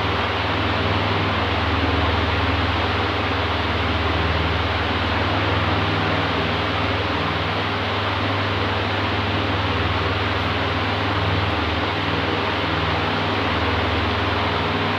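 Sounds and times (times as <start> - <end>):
electric fan air rush: 0.0 - 14.9.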